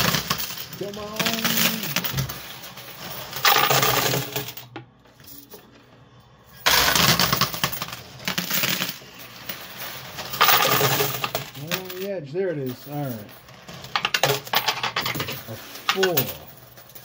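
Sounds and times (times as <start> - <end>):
coins clattering onto metal: 0.0 - 4.7, 6.7 - 17.0.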